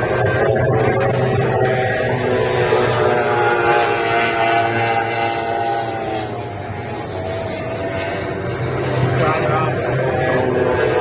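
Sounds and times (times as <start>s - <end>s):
powerboat engine running: 0.0s - 11.0s.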